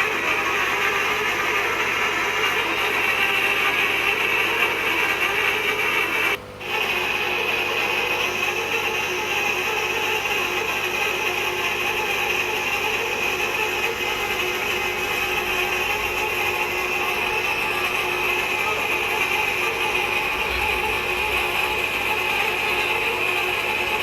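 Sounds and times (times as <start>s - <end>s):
tapping machine mechanical noise: 0.0s - 24.0s.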